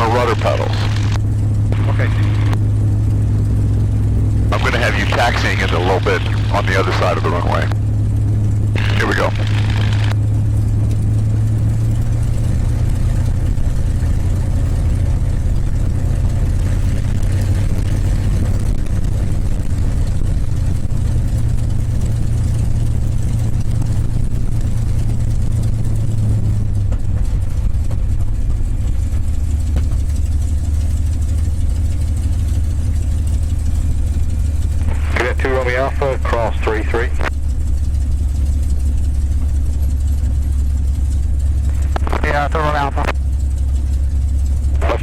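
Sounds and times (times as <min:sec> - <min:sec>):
propeller aircraft engine droning: 0:00.0 - 0:45.0.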